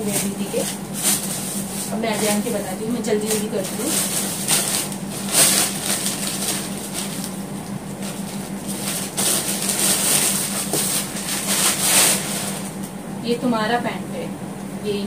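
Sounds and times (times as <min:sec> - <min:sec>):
plastic bag rustling: 0:00.0 - 0:12.8.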